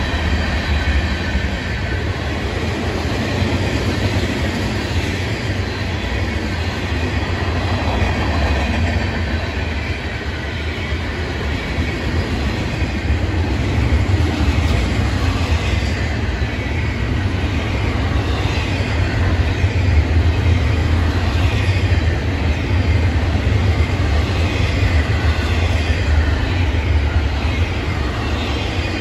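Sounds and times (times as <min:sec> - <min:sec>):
freight train wheels rumbling on rails: 0:00.0 - 0:29.0.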